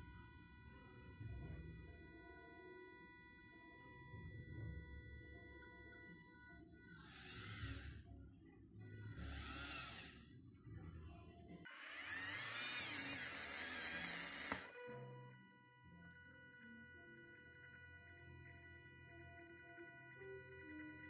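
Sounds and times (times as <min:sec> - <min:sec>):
small electric motor whining: 0:00.0 - 0:08.2, 0:08.8 - 0:10.5, 0:11.4 - 0:21.0.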